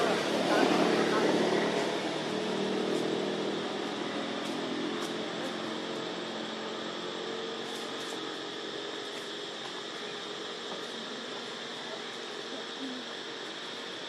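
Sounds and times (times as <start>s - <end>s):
engine hum: 0.0s - 14.0s.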